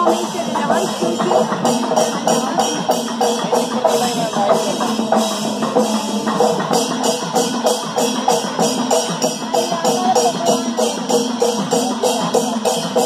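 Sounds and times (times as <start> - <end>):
drums beaten in fast rolls: 0.0 - 13.0
metal cymbals clashing: 0.0 - 13.0.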